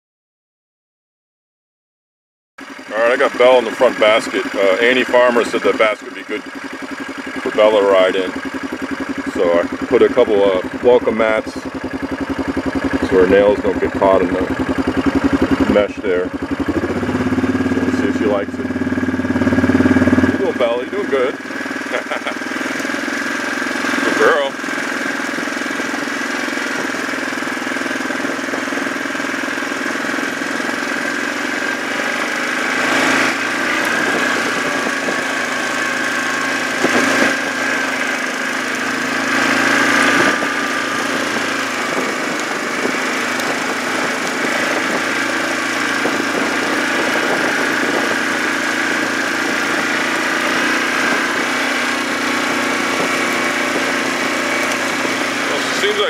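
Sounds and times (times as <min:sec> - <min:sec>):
atv engine running: 0:02.6 - 0:56.0.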